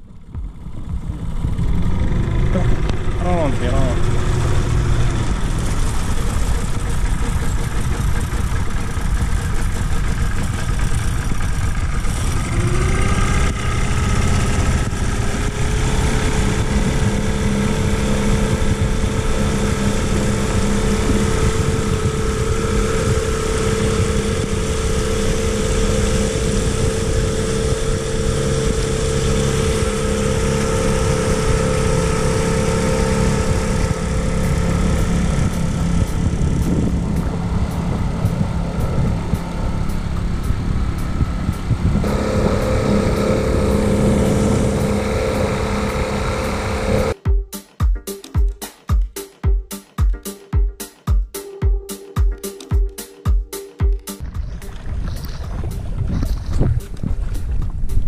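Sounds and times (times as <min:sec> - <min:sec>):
outboard motor running: 0:00.0 - 0:47.4, 0:53.8 - 0:58.0.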